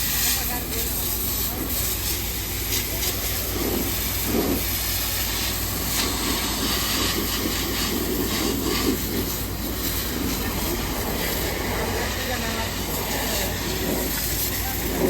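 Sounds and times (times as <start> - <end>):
pressure washer spraying: 0.0 - 15.0
engine humming: 0.6 - 15.0.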